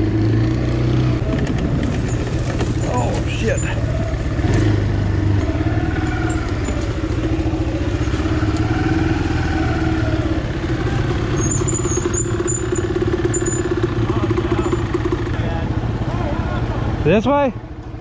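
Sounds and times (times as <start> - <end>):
quad engine running at low revs: 0.0 - 18.0.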